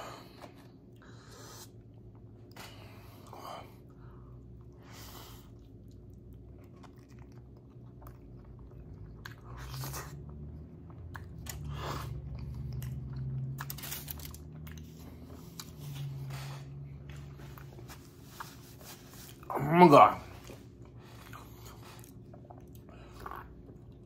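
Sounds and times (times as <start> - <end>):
man biting and chewing food: 0.0 - 19.7, 20.3 - 24.0.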